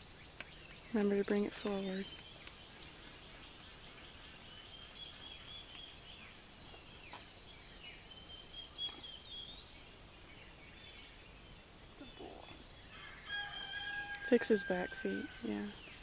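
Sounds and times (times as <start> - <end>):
insects droning: 0.0 - 16.0
small birds chirping: 0.0 - 16.0.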